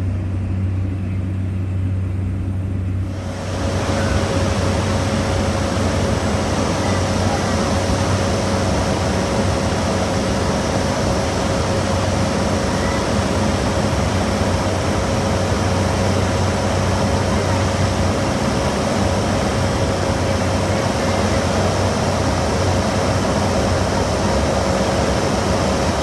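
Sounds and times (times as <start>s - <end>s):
turboprop engine drone: 0.0s - 26.0s.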